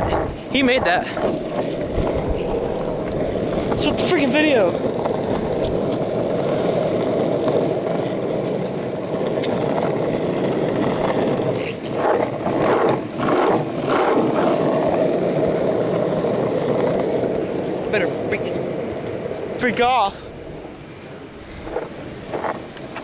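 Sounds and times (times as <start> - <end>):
longboard wheels rolling on asphalt: 0.0 - 23.0.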